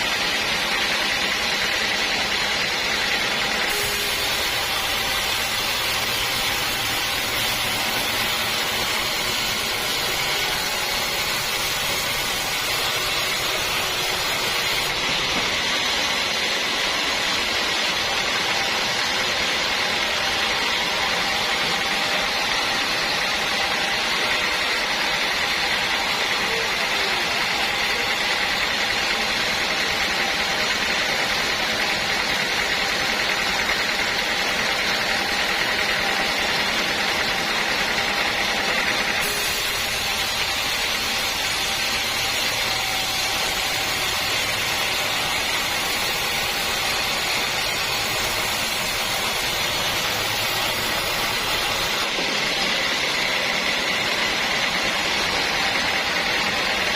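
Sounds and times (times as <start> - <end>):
machine whine: 0.0 - 56.9
sawmill machinery running: 0.0 - 56.9.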